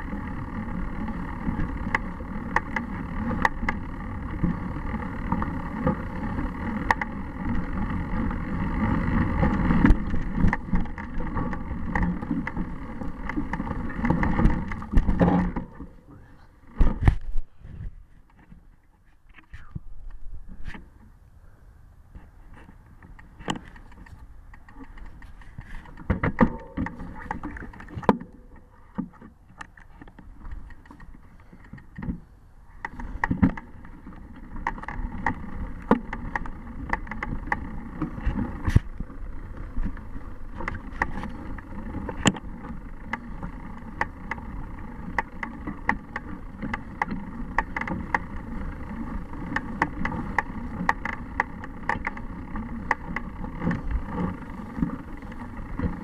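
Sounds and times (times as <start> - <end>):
bike rattling over bumps: 0.0 - 21.2, 22.1 - 56.0
tires rolling over dry leaves: 0.0 - 56.0.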